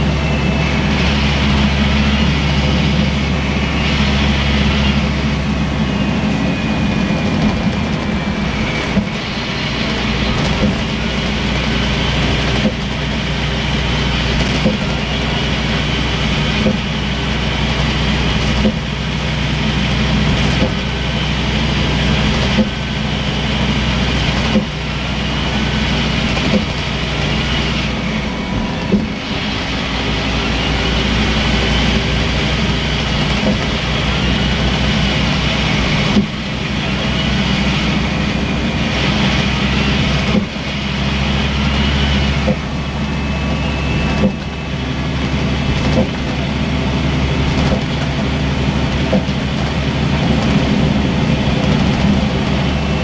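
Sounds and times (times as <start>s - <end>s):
bus body rattling: 0.0s - 53.0s
bus diesel engine drone: 0.0s - 53.0s.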